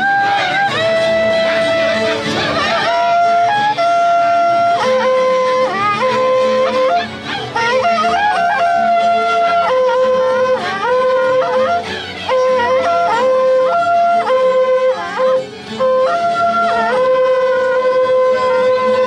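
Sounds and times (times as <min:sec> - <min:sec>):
horn trumpets blowing long notes: 0:00.0 - 0:19.0.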